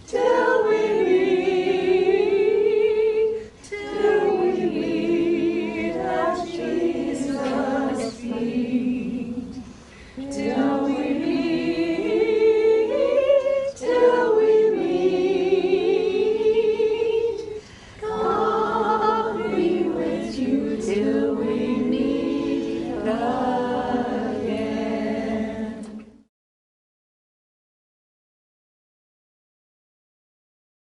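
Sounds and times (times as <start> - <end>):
group singing unaccompanied: 0.0 - 26.3.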